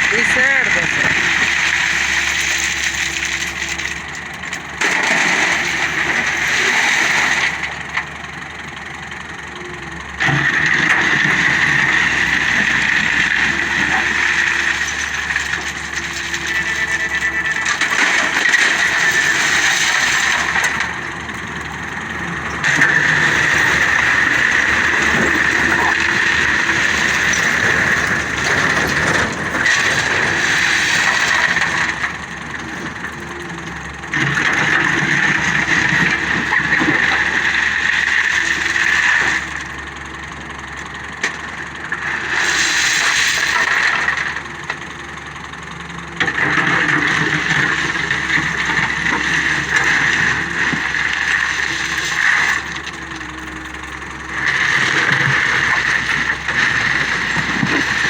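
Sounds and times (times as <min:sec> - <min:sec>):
diesel engine under hydraulic load: 0:00.0 - 0:58.0.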